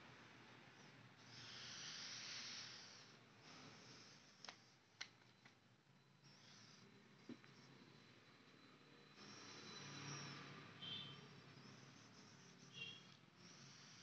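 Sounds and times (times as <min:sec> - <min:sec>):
soft breath-like hiss: 0:00.0 - 0:05.0, 0:06.2 - 0:08.1, 0:08.9 - 0:14.0.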